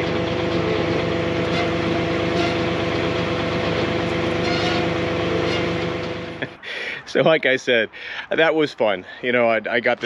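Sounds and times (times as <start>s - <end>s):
diesel engine droning: 0.0s - 8.5s.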